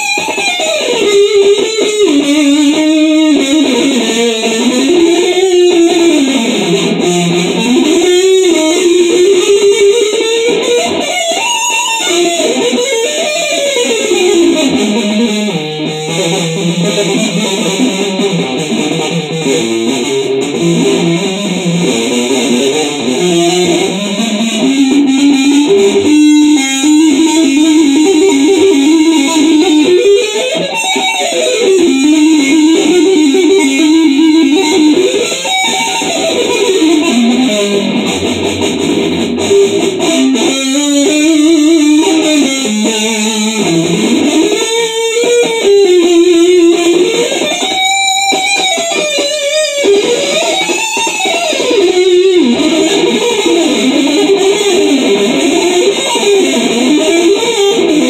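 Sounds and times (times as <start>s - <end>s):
electric guitar metal lead: 0.0s - 58.0s.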